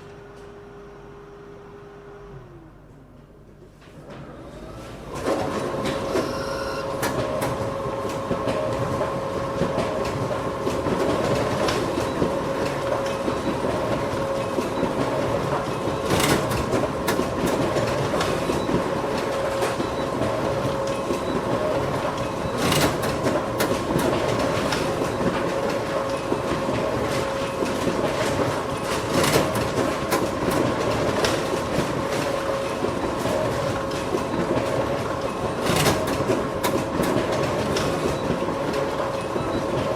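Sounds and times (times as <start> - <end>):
photocopier whirring: 4.1 - 39.9.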